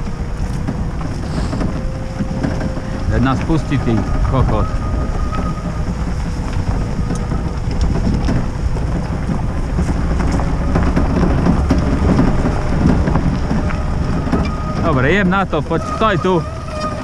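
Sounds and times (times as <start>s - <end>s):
gravel crunching under wheels: 0.0s - 17.0s
low rumble of engine and tyres: 0.0s - 17.0s.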